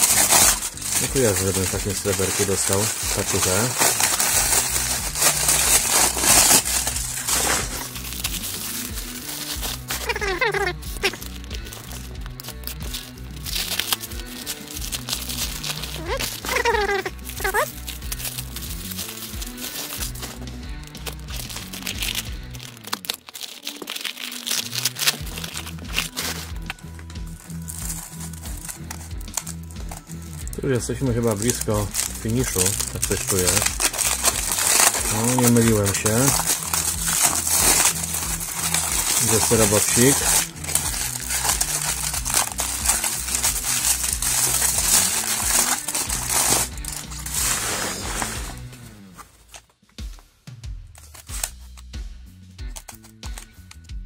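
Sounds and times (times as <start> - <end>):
background music with bass line: 0.0 - 23.2, 24.8 - 54.0
foil packaging crinkling: 0.0 - 49.9, 51.0 - 52.0, 52.6 - 53.9.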